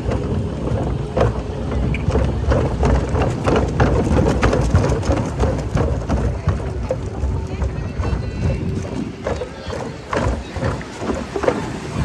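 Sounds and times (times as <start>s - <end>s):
boat low rumble: 0.0s - 12.0s
water splashing and slapping: 0.0s - 12.0s
wind buffeting microphone: 0.0s - 12.0s.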